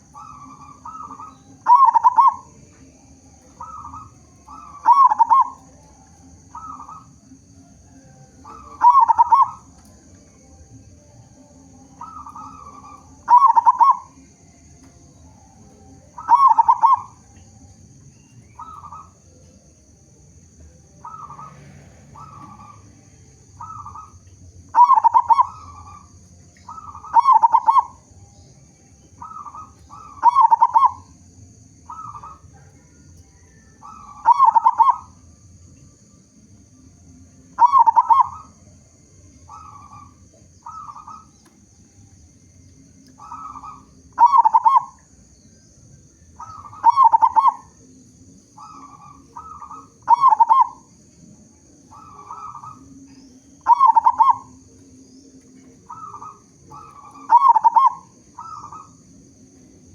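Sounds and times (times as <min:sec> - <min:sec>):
dove cooing: 0:00.0 - 0:35.7, 0:36.5 - 0:41.8, 0:42.6 - 0:45.4, 0:46.2 - 0:59.9.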